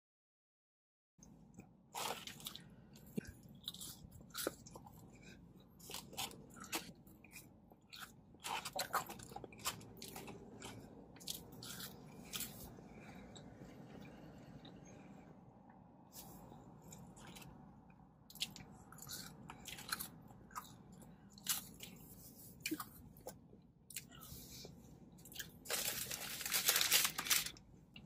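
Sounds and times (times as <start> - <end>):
person chewing food: 1.5 - 14.8, 16.1 - 28.0.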